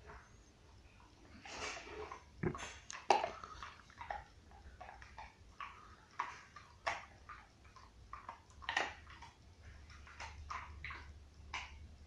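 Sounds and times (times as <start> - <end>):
dog gnawing on a bone: 1.4 - 12.0.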